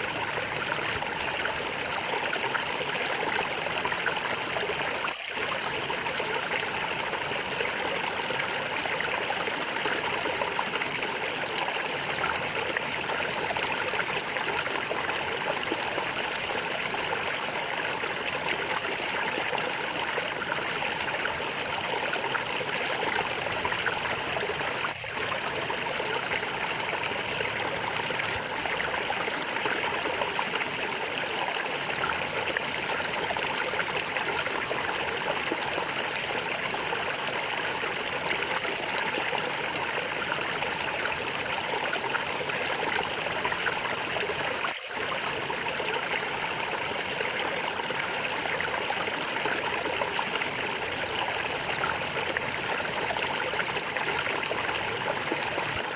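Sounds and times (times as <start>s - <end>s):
stream water gurgling: 0.0s - 55.9s.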